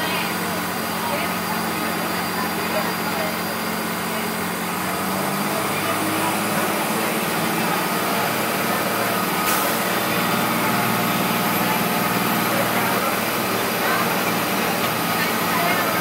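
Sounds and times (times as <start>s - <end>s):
diesel bus engine running: 0.0s - 16.0s
road noise: 0.0s - 16.0s.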